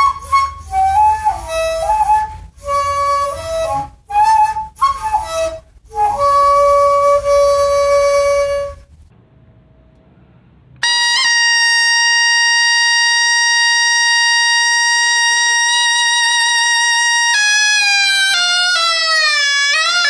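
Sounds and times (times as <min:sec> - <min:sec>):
bamboo flute long note: 0:00.0 - 0:09.0, 0:10.8 - 0:20.0.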